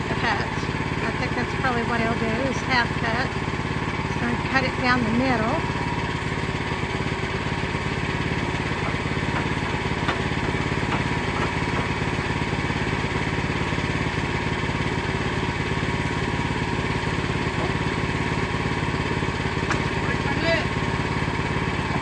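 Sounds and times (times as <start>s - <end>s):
sawmill engine running steadily: 0.0s - 22.0s.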